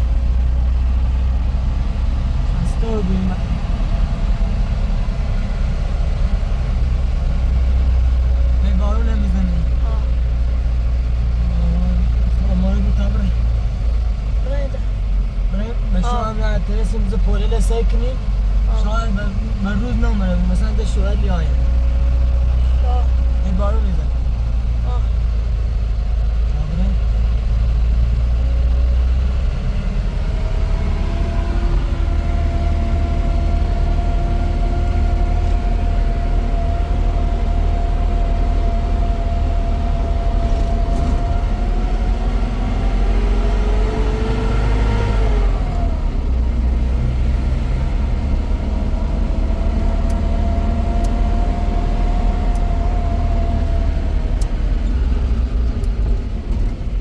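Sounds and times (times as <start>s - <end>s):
engine whine: 0.0s - 57.0s
vehicle engine rumbling: 0.0s - 57.0s.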